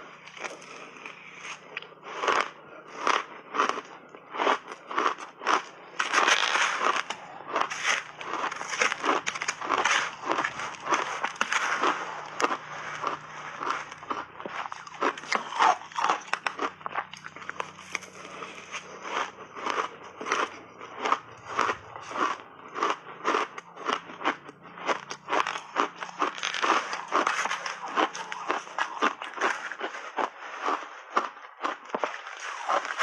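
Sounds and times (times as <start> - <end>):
crunchy ice being chewed: 0.0 - 33.0.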